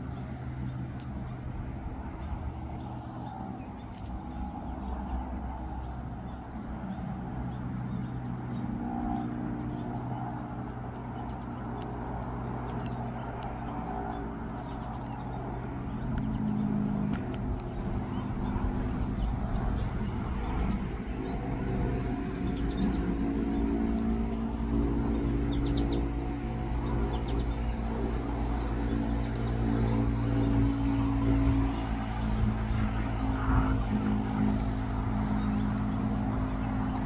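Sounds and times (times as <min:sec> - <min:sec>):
low motor drone: 0:00.0 - 0:37.0.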